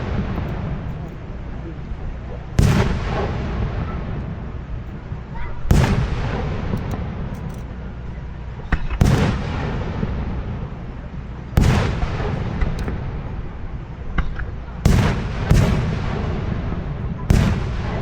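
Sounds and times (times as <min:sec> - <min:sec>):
faint fireworks crackles: 0:00.0 - 0:18.0
fireworks booming: 0:00.0 - 0:18.0.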